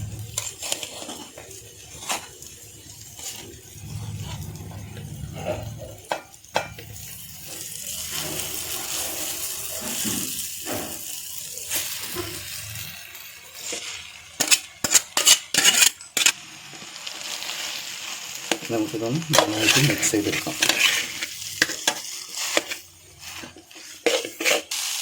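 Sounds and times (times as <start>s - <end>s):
noodles sizzling in a pan: 0.0s - 25.0s.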